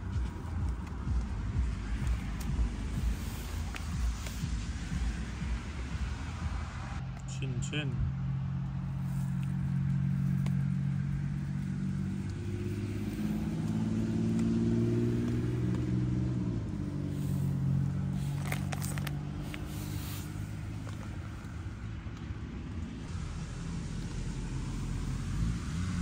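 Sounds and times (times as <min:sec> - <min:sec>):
passing road traffic: 0:00.0 - 0:26.0.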